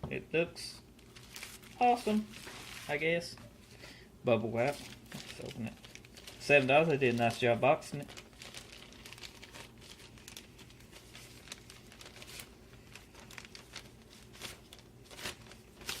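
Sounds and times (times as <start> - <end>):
bubble wrap crinkling: 0.9 - 3.4, 4.6 - 16.0.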